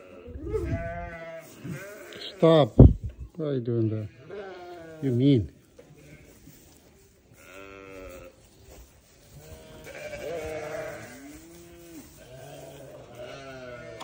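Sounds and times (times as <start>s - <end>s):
goats bleating: 0.0s - 2.9s, 4.0s - 6.6s, 7.3s - 14.0s.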